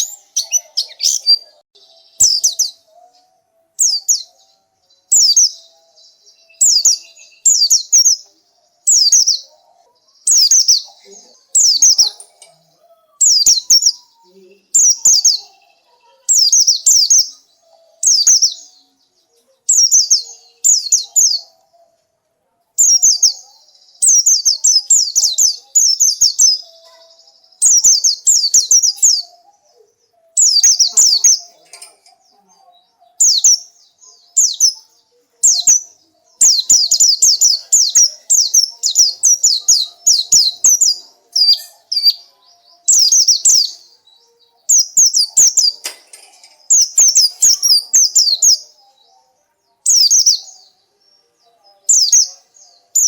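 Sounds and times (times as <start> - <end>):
bird chirping: 0.0 - 53.0.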